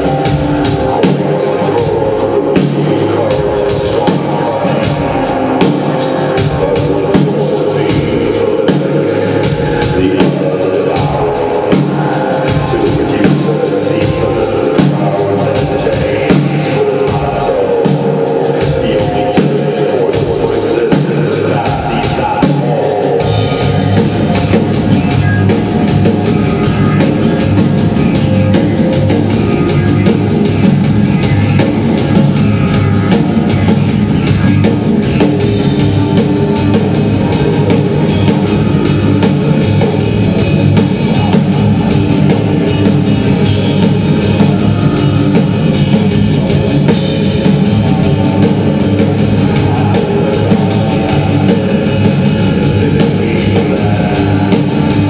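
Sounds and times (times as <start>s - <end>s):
fast drum beat: 0.0s - 55.0s
live rock band: 0.0s - 55.0s.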